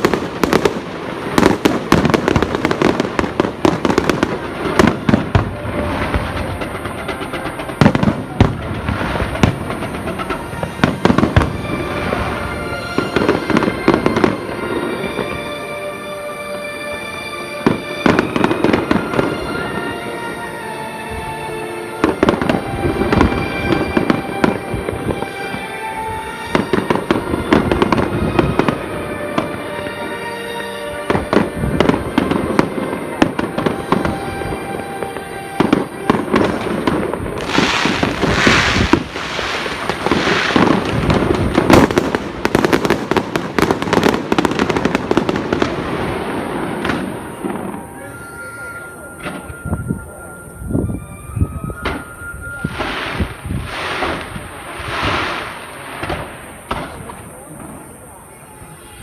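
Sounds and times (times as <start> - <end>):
fireworks bangs: 0.0 - 15.6, 17.6 - 20.4, 22.0 - 50.1, 50.9 - 59.0
crackling firework bursts: 0.0 - 15.7, 22.0 - 50.0, 51.4 - 59.0
music with long held notes: 0.0 - 59.0.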